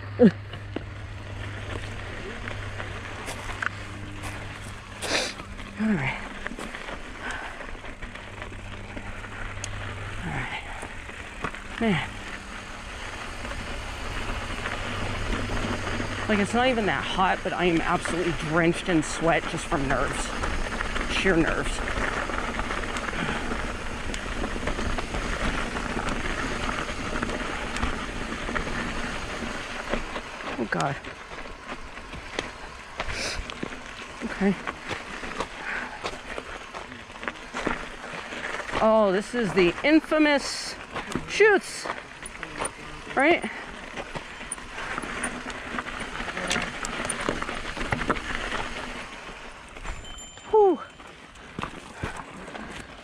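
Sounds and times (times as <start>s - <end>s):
bike tyres crunching on gravel: 0.4s - 53.0s.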